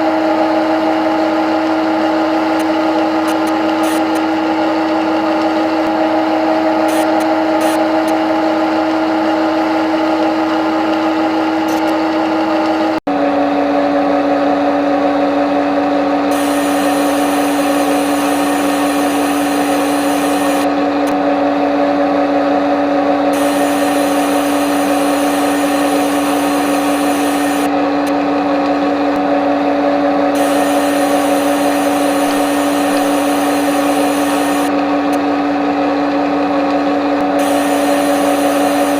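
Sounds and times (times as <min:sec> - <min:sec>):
machine whine: 0:00.0 - 0:38.9.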